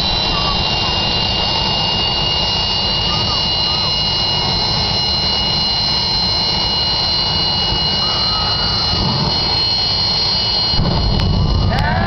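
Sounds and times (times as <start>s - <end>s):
high-pitched whine: 0.0s - 12.0s
jet engine roar: 0.0s - 12.0s.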